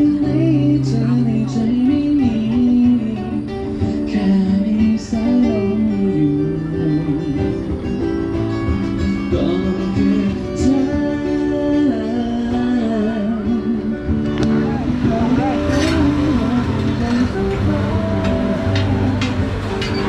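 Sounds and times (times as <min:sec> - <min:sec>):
person singing: 0:00.0 - 0:07.9, 0:09.1 - 0:20.0
acoustic guitar: 0:00.0 - 0:20.0.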